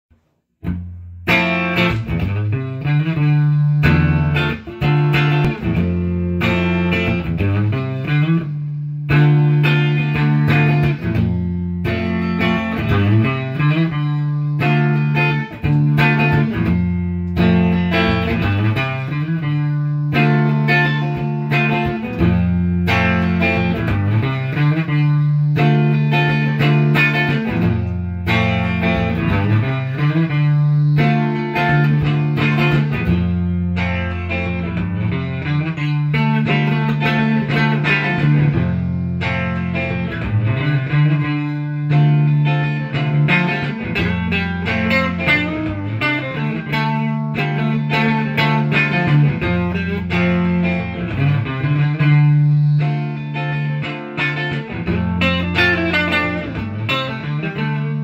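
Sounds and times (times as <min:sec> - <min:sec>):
electric guitar chords and riffs: 0:00.1 - 0:58.0.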